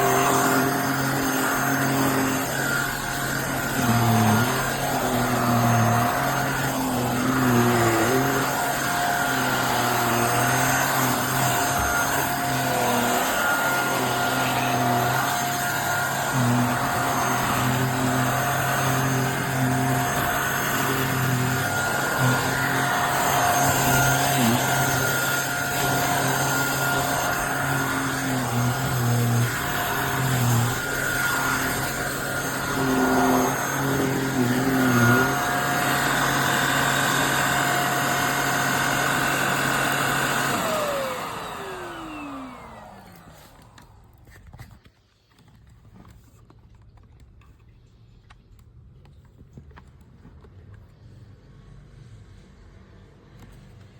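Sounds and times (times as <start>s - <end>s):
vacuum cleaner motor whine: 0.0s - 46.4s.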